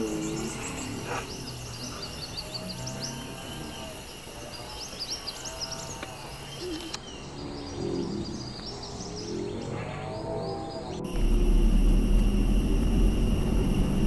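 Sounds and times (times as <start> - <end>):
birds chirping: 0.0 - 14.0
insect drone: 0.0 - 14.0.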